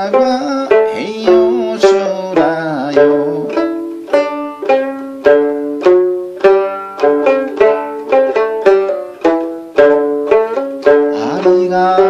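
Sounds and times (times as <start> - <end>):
plucked lute notes: 0.0 - 12.0.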